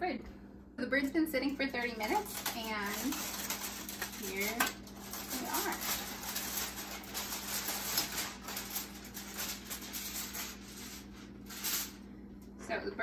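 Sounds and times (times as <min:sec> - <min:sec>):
aluminium foil crinkling: 0:01.0 - 0:12.6.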